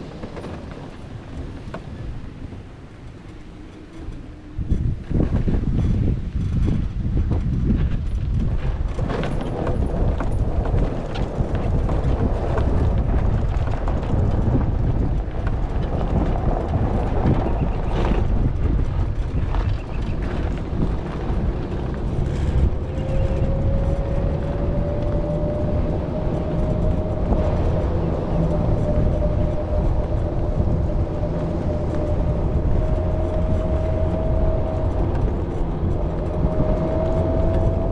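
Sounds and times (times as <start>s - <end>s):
vehicle rumbling on pavement: 0.0s - 37.9s
wind buffeting microphone: 0.0s - 37.9s.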